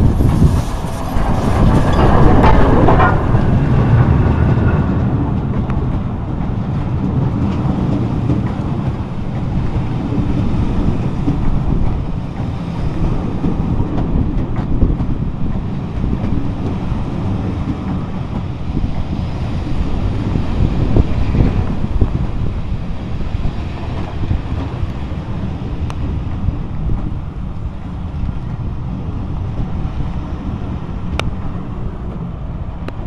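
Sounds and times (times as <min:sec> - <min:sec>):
steam locomotive passing: 0:00.0 - 0:33.0
train wheels rumbling on rails: 0:00.0 - 0:33.0.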